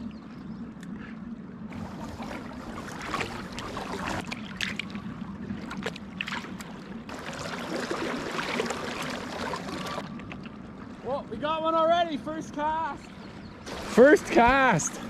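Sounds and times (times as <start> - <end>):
water splashing and sloshing: 0.0 - 11.5, 13.0 - 15.0.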